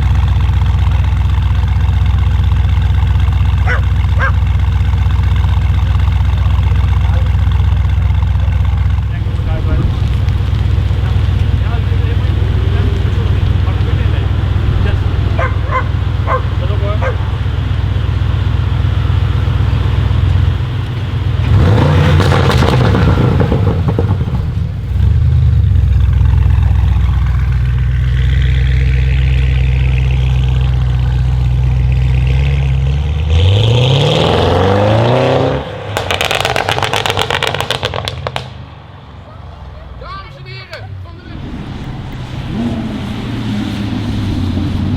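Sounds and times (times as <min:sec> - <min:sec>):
exhaust crackles and pops: 0:00.0 - 0:33.5, 0:35.6 - 0:38.9, 0:40.2 - 0:44.9
car engine idling and revving: 0:00.0 - 0:44.9.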